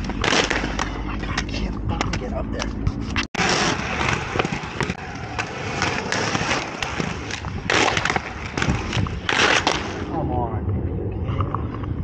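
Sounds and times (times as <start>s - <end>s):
skates scraping concrete ledge: 0.0s - 10.1s
skate wheels rolling on concrete: 0.0s - 12.0s.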